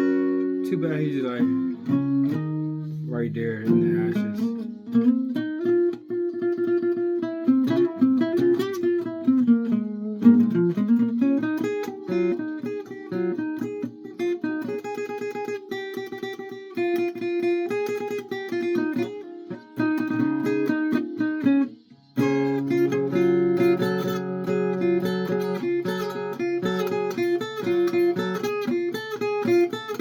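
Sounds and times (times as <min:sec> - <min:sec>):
guitar playing: 0:00.0 - 0:30.0.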